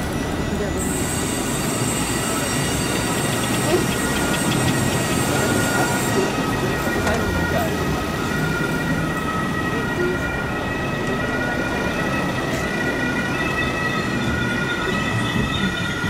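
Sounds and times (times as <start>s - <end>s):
locomotive engine rumble: 0.0s - 16.0s.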